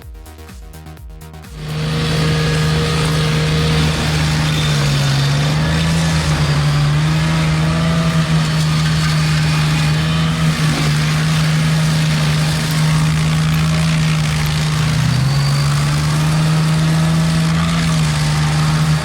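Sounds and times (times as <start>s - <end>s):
machine engine running fast: 1.5s - 19.0s.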